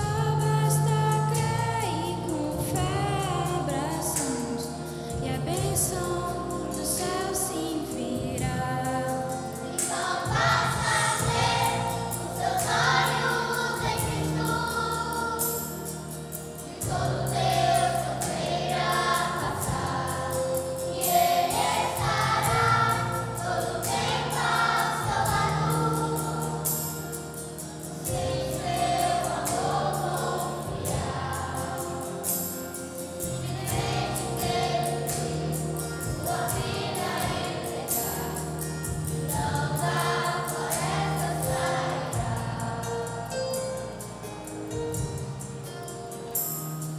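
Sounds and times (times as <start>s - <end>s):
children's choir singing: 0.0s - 43.8s.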